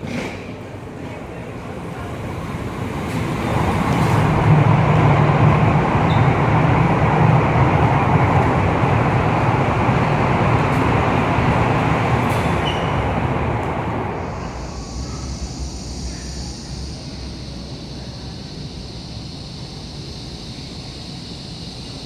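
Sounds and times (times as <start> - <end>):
high-speed train rushing rumble: 0.0 - 22.0.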